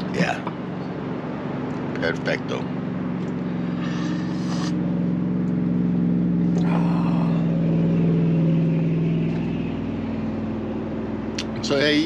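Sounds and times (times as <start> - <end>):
vehicle driving past: 0.0 - 12.0.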